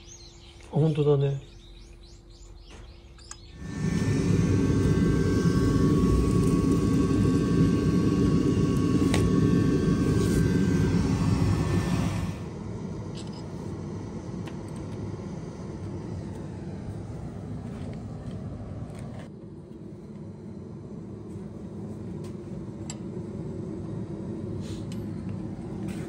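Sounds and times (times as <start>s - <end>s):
loud steady rumble: 3.5s - 26.0s.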